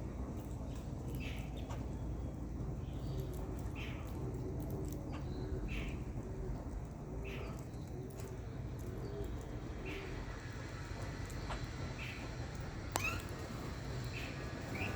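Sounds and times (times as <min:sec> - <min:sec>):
low background rumble: 0:00.0 - 0:14.9.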